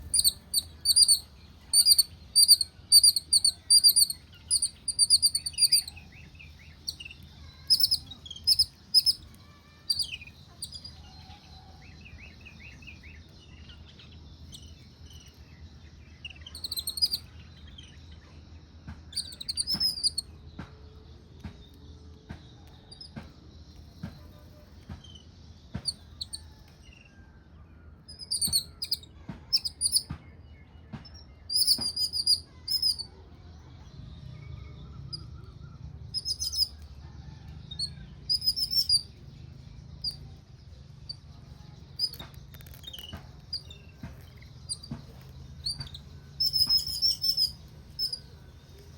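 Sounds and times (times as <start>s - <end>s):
small birds chirping: 0.0s - 48.9s
soft bird trill: 0.0s - 48.9s.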